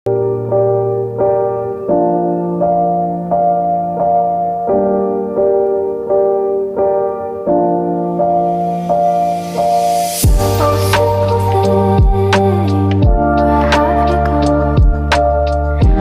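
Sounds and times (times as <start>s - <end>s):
keyboard chords: 0.1s - 16.0s.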